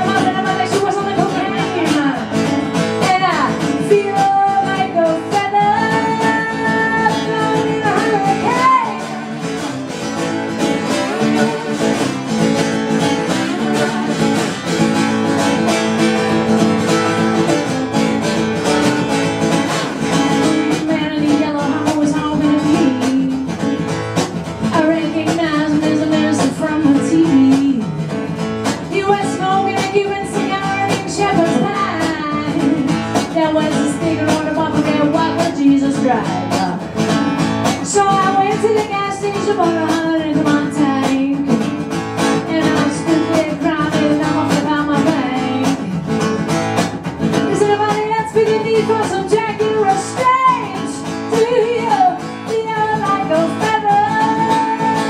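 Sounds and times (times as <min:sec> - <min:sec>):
woman singing: 0:00.0 - 0:09.7, 0:10.4 - 0:16.9, 0:20.0 - 0:46.4, 0:47.2 - 0:55.0
acoustic guitar strumming: 0:00.0 - 0:55.0.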